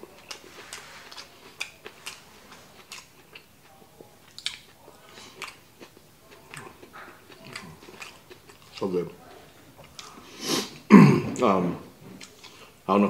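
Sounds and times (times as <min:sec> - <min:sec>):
close-up chewing with mouth smacks: 0:00.0 - 0:10.2, 0:12.2 - 0:12.8.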